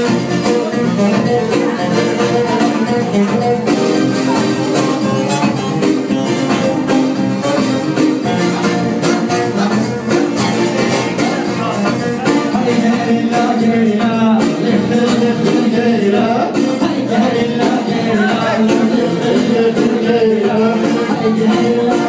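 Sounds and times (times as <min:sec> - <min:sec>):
loud dance music: 0:00.0 - 0:22.0.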